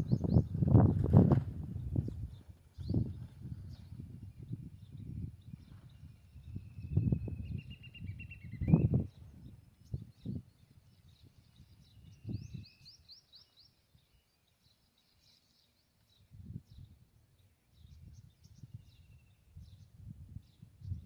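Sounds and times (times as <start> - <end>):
bird chirping: 0.0 - 0.8, 1.8 - 21.0.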